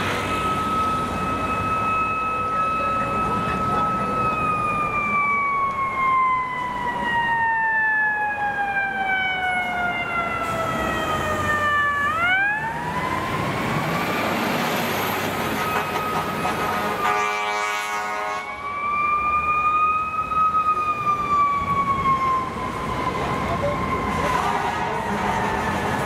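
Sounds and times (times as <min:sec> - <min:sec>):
mechanical fire siren wailing: 0:00.0 - 0:26.0
truck and street traffic rumble: 0:00.0 - 0:26.0.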